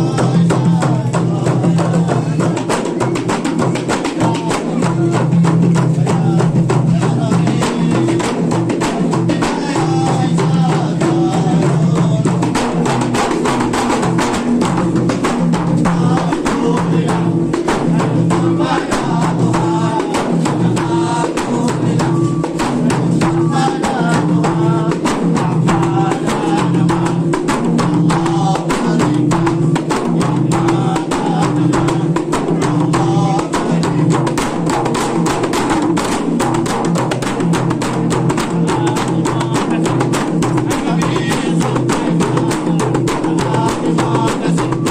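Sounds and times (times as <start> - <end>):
frame drums in fast rhythm: 0.0 - 44.9
voices singing: 0.0 - 44.9.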